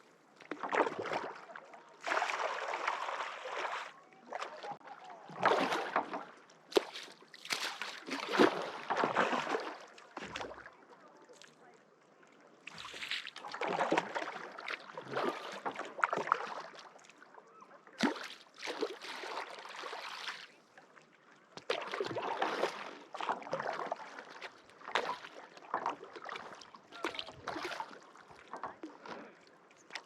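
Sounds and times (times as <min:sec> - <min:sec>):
paddle splashing in water: 0:00.0 - 0:11.6, 0:12.6 - 0:30.0.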